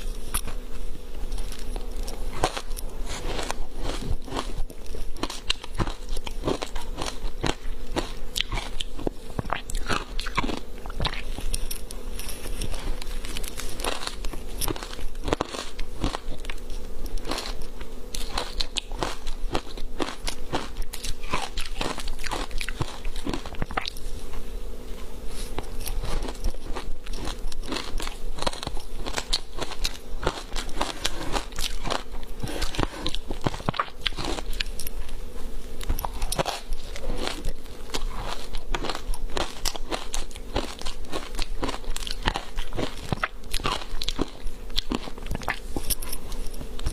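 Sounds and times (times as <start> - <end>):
crunchy chewing of ice: 0.0 - 46.9
faint steady hum: 0.0 - 46.9.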